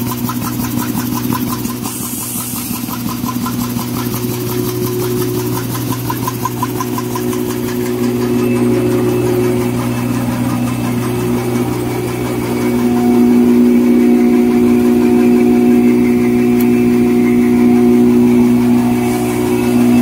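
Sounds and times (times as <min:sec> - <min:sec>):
paper machine humming: 0:00.0 - 0:20.0.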